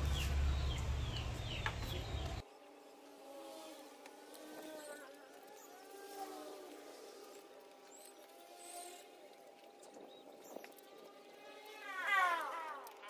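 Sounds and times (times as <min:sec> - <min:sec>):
insect buzzing: 0:02.4 - 0:13.0.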